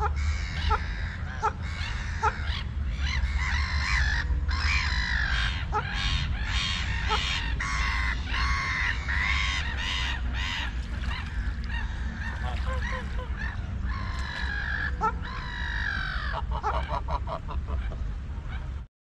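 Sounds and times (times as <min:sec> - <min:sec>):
geese honking: 0:00.0 - 0:18.0
steady low rumble: 0:00.0 - 0:18.9.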